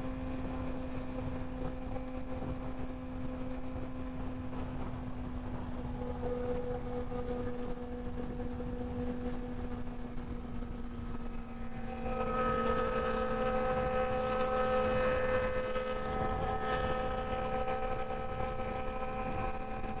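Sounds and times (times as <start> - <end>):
motorcycle engine cruising: 0.0 - 20.0
wind rumble: 0.0 - 20.0.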